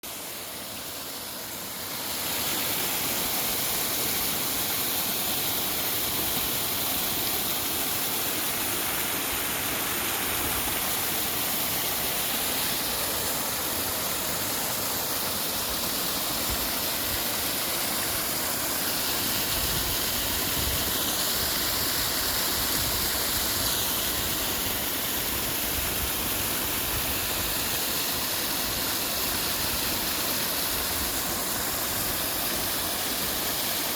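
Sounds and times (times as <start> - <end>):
mountain stream rushing: 0.0 - 33.9.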